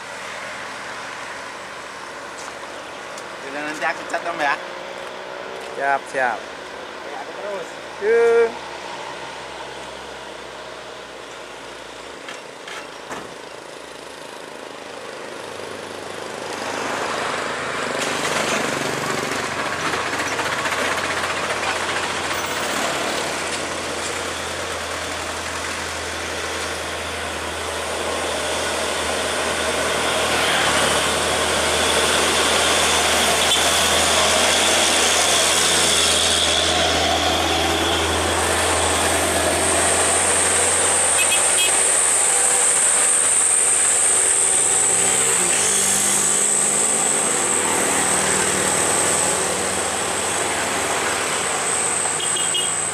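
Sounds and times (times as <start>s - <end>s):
diesel trucks climbing hill: 0.0s - 52.9s.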